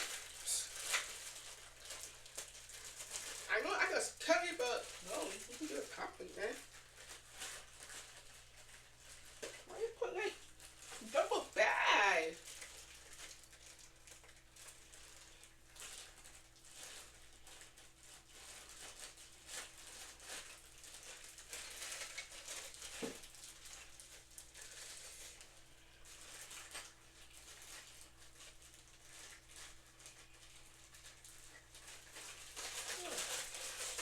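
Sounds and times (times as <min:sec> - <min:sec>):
plastic bags rustling and crinkling: 0:00.0 - 0:34.0.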